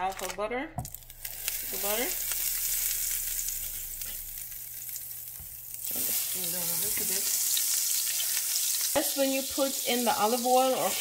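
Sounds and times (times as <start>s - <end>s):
butter sizzling in frying pan: 1.0s - 11.0s.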